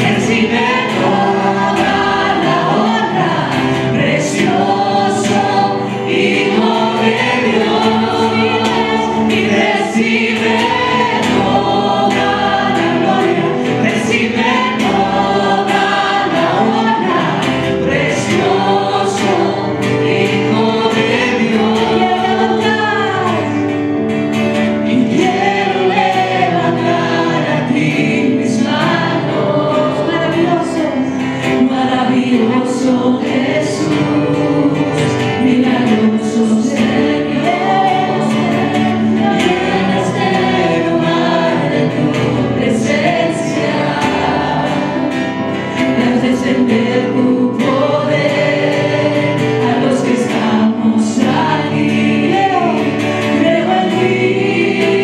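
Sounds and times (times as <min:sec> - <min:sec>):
choir singing gospel with band: 0:00.0 - 0:55.0.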